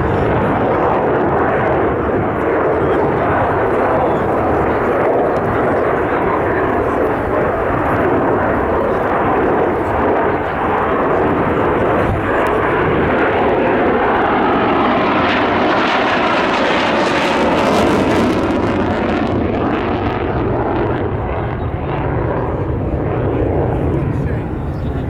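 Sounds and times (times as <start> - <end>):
aircraft engine low pass: 0.0 - 25.0.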